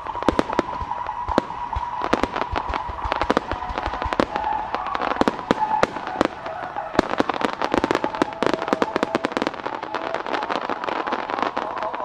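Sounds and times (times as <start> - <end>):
firework shell bangs: 0.0 - 10.5.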